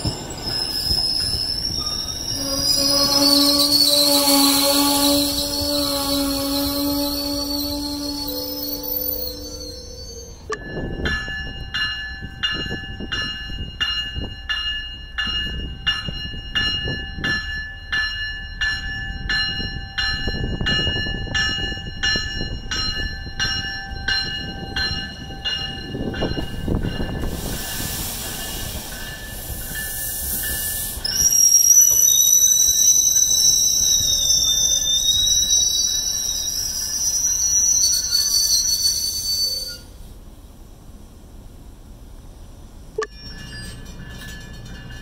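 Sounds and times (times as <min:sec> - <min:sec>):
railroad crossing bell ringing: 0:00.0 - 0:40.0, 0:43.0 - 0:45.0
low rumble of train: 0:00.0 - 0:45.0.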